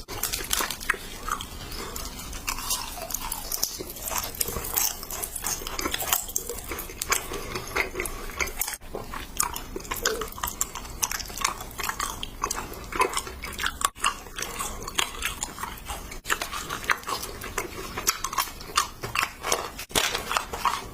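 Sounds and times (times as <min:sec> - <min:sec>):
crunchy candy bites: 0:00.0 - 0:20.9.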